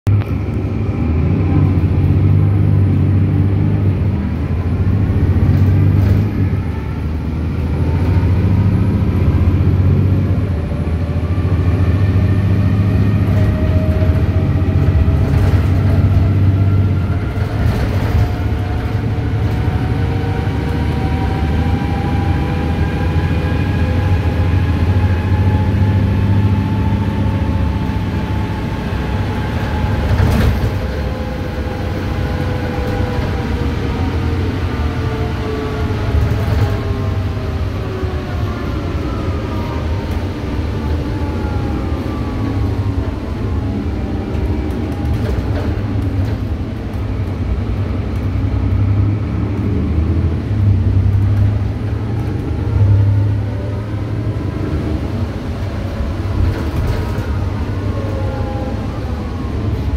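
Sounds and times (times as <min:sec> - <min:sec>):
bus engine pulling hard: 0:00.1 - 0:59.9.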